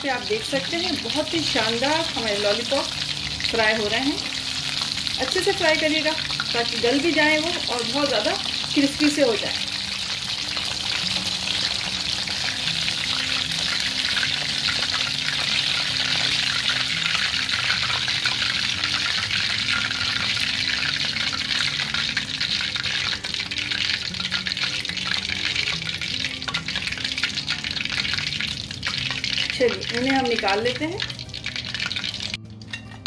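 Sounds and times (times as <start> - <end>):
food deep-frying in sizzling oil: 0.0 - 33.0.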